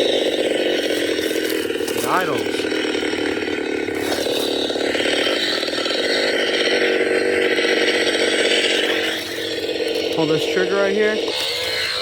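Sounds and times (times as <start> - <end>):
electronic chainsaw idle effect: 0.0 - 12.0.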